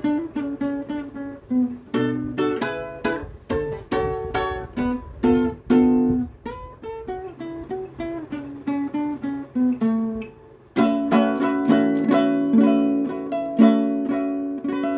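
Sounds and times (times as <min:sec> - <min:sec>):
plucked string instrument solo: 0:00.0 - 0:14.9.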